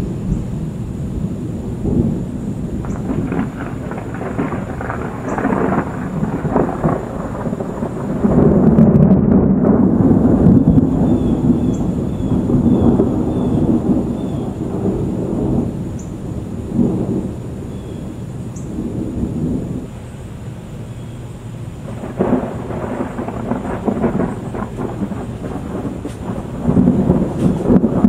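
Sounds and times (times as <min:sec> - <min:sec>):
thunder rolling and crackling: 0:00.0 - 0:20.1, 0:21.6 - 0:28.0.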